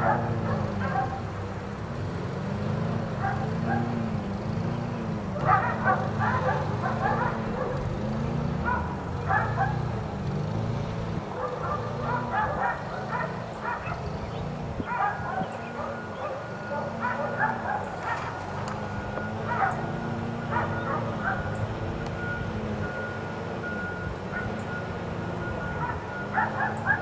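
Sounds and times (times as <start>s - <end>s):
dogs barking and yipping: 0.0s - 1.4s, 3.1s - 4.1s, 5.3s - 10.1s, 11.2s - 27.0s.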